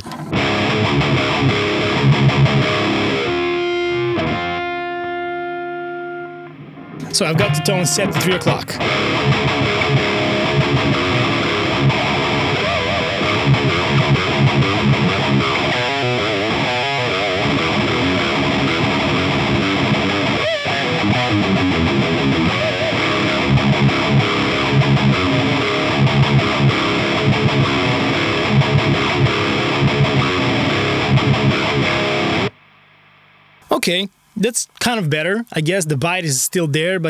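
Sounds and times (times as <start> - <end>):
distorted electric guitar riffing: 0.0 - 32.6.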